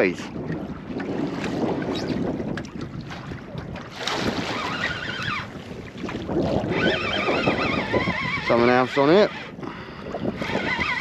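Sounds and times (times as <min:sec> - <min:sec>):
water slapping boat hull: 0:00.0 - 0:11.0
wind buffeting microphone: 0:00.0 - 0:11.0.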